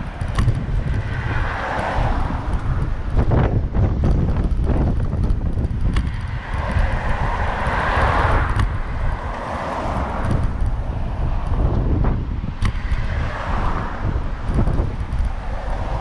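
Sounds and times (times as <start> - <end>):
passing vehicle: 0.0 - 16.0
wind buffeting microphone: 0.0 - 16.0.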